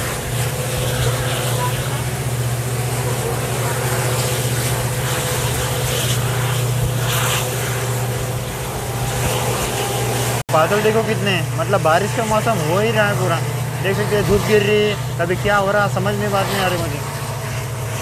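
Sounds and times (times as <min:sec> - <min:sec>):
locomotive diesel engine droning: 0:00.0 - 0:18.0
rushing wind: 0:00.0 - 0:18.0
wheels rumbling on rails: 0:00.0 - 0:18.0.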